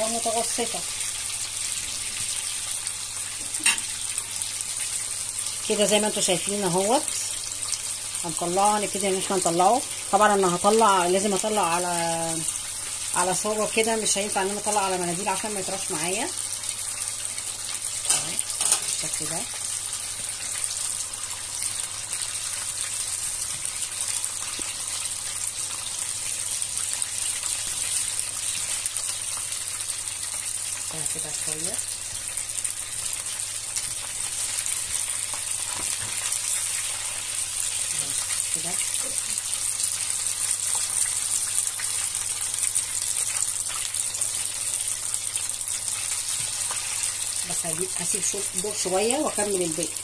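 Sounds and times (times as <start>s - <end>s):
chicken deep-frying in oil: 0.0s - 50.0s.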